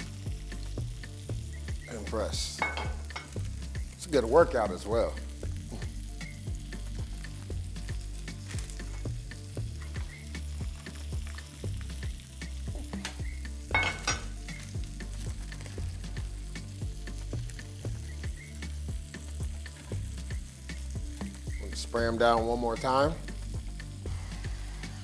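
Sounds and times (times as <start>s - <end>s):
food sizzling in a frying pan: 0.0s - 25.0s
low background music: 0.0s - 25.0s.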